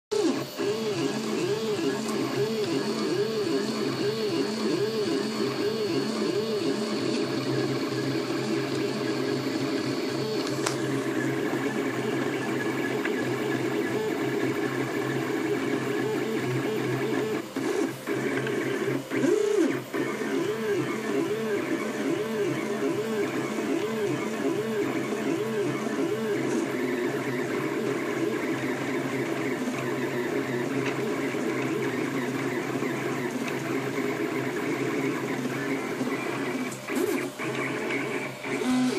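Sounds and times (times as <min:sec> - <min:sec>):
stepper motors whining: 0:00.2 - 0:38.9.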